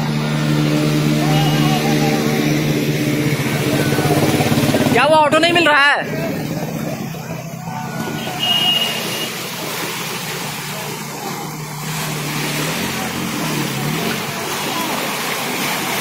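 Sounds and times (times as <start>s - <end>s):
vehicle engines running: 0.0s - 16.0s
water rushing: 0.0s - 16.0s.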